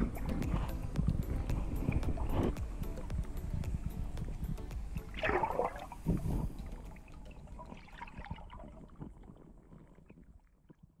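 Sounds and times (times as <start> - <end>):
water splashing and gurgling: 0.0 - 11.0.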